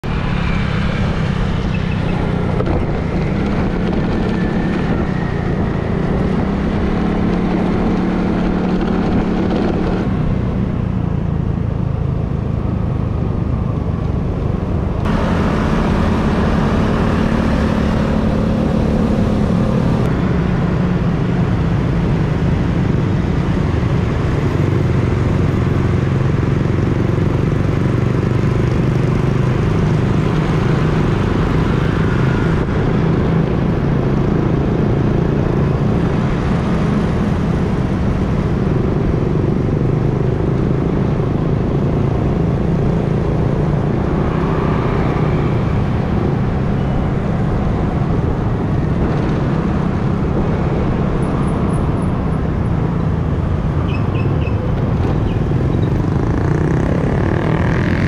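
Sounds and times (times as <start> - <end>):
road noise: 0.0 - 58.0
vehicle engines running: 0.0 - 58.0.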